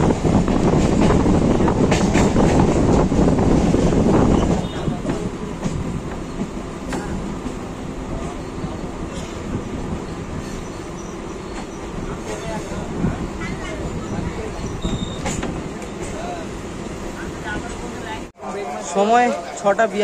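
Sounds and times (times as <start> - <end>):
electric train running on rails: 0.0 - 20.0.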